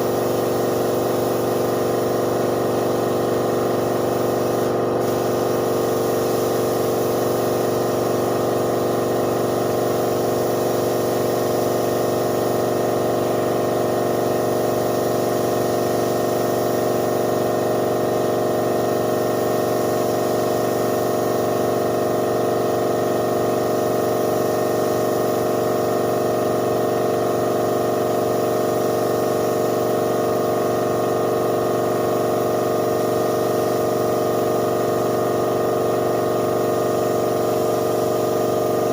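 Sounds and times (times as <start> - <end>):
air compressor humming and hissing: 0.0 - 38.9.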